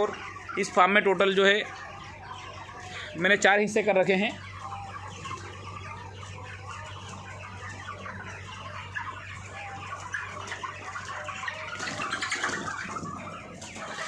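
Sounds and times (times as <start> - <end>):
flock of chickens calling: 0.0 - 14.0.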